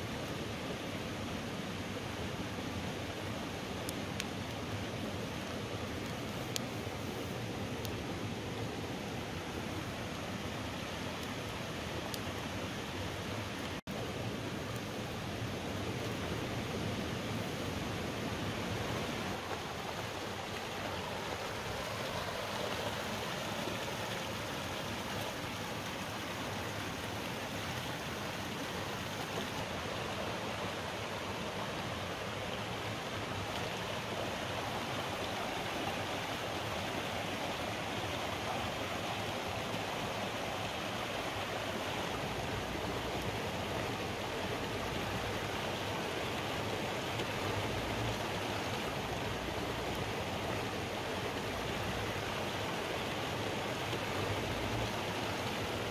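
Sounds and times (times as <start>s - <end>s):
stream rushing over stones: 0.0s - 55.9s.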